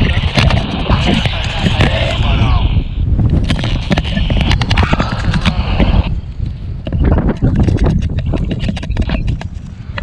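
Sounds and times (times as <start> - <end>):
sharp flaps and clicks: 0.0 - 2.3, 3.2 - 10.0
wind buffeting microphone: 0.0 - 10.0.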